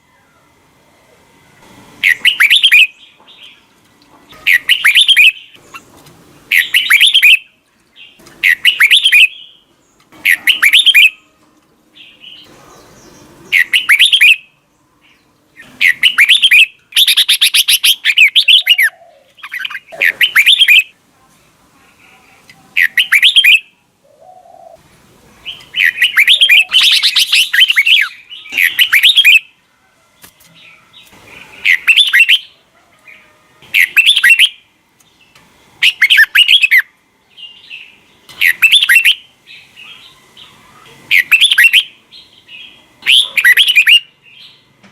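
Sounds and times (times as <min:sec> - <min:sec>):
birds singing warbled phrases: 0:02.0 - 0:21.0, 0:21.9 - 0:29.6, 0:30.6 - 0:44.8.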